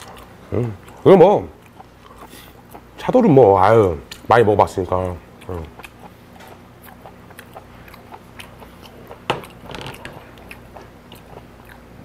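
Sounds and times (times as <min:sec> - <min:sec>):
chewing and mouth sounds: 0:00.0 - 0:12.0.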